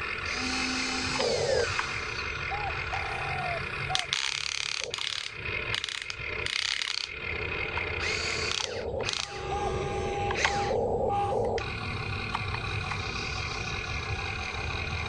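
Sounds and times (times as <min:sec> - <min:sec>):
electric motors whining and grinding: 0:00.0 - 0:15.0.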